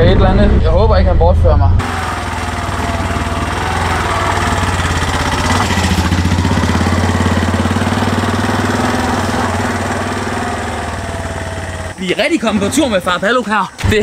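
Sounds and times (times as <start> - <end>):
auto-rickshaw engine passing by: 1.8 - 13.4.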